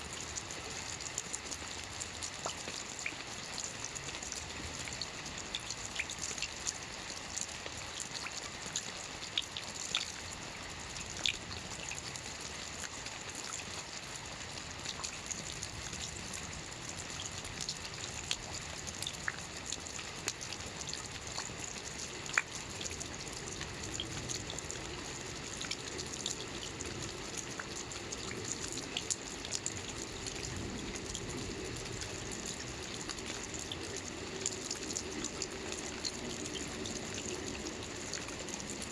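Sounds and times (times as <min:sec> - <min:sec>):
sharp raindrop ticks: 0:00.0 - 0:14.1, 0:14.8 - 0:38.9
rain hissing on water: 0:00.0 - 0:38.9.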